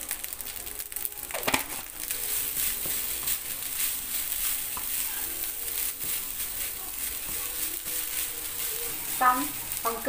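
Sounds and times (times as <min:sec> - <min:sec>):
rice sizzling in frying pan: 0:00.0 - 0:10.0
wooden spatula scraping pan: 0:01.7 - 0:10.0.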